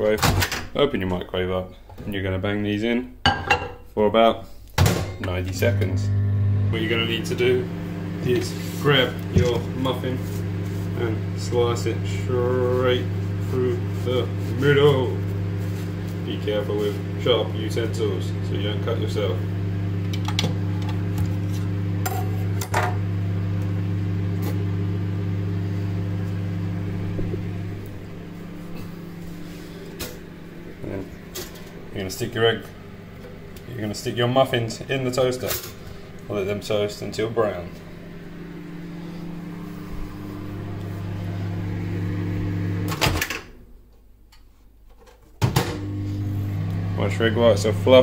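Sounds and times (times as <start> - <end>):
microwave oven humming: 4.8 - 43.9, 45.4 - 48.0.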